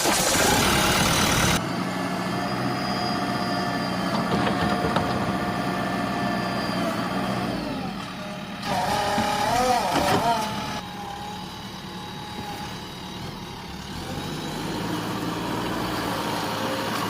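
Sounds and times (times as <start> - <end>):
diesel machinery engine running: 0.0 - 17.0.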